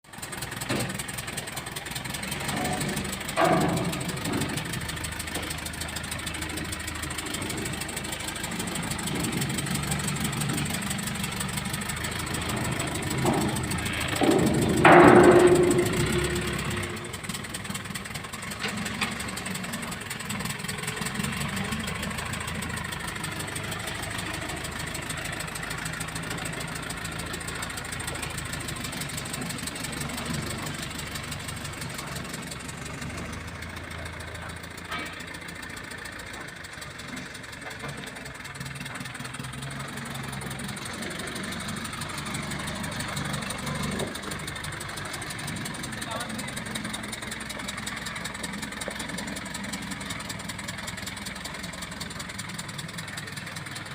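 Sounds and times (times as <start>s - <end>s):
heavy machine engine idling: 0.0s - 53.9s.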